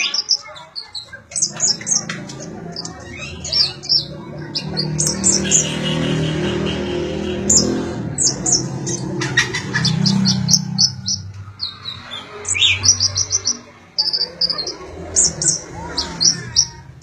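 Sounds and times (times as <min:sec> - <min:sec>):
bird chirping and trilling: 0:00.0 - 0:17.0.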